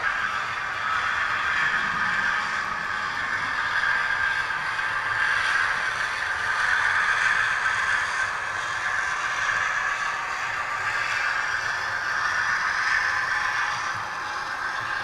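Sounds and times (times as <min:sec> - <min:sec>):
model locomotives whirring on track: 0:00.0 - 0:15.0.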